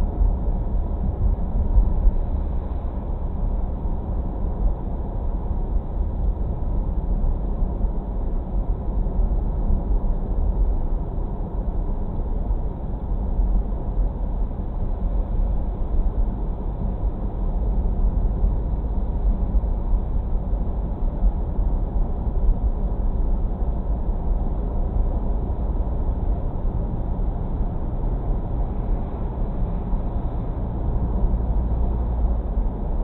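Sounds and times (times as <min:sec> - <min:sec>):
car tyre and engine rumble: 0:00.0 - 0:33.0.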